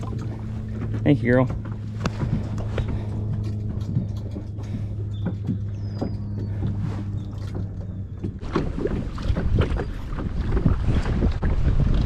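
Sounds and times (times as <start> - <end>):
waves slapping kayak hull: 0.0 - 3.5, 5.5 - 12.0
light water splashes: 0.0 - 12.0
low hum: 0.0 - 12.0
wind buffeting microphone: 0.0 - 12.0.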